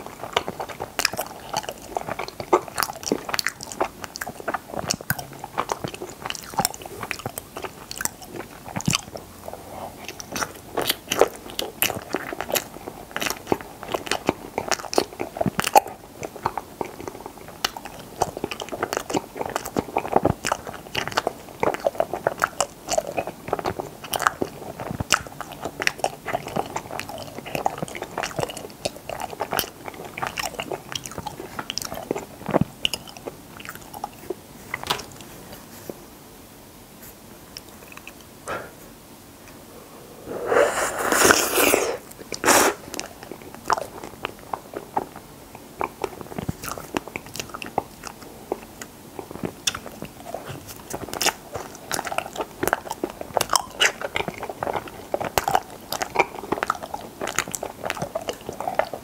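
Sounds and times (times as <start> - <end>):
wet chewing with mouth clicks: 0.0 - 36.0, 37.0 - 38.6, 40.3 - 59.0.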